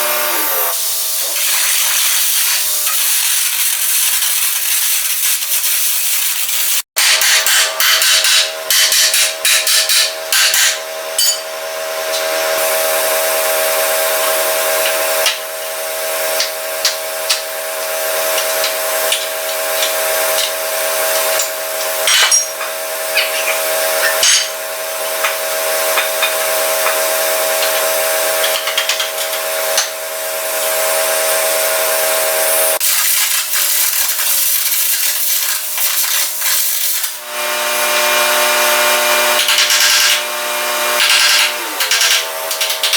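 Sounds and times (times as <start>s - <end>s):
welder engine humming: 0.0s - 4.8s, 7.5s - 42.9s.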